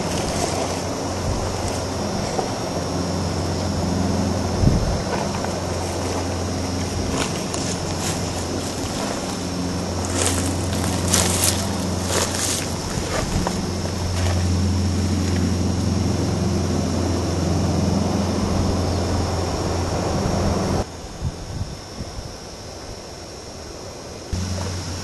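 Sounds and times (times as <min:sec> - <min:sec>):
low droning hum: 0:00.0 - 0:25.0.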